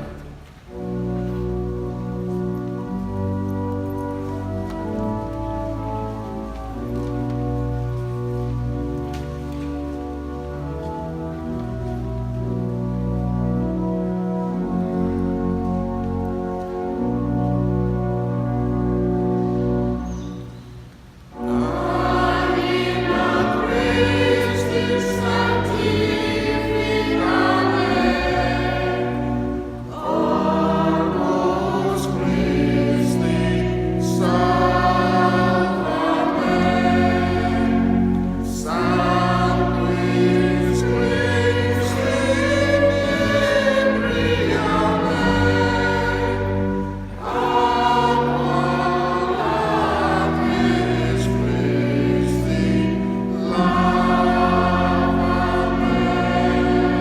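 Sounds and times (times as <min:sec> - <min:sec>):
church choir singing: 0:00.0 - 0:20.6, 0:21.3 - 0:57.0.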